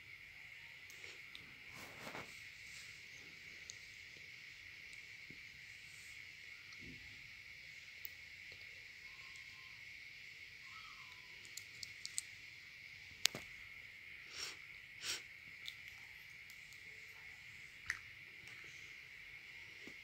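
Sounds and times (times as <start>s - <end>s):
faint high-pitched hum: 0.0s - 20.0s.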